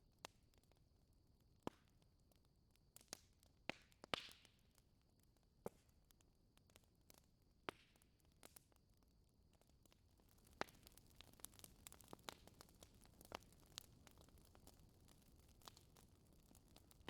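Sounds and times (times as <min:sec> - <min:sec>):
wood fire crackling: 0:03.0 - 0:17.0.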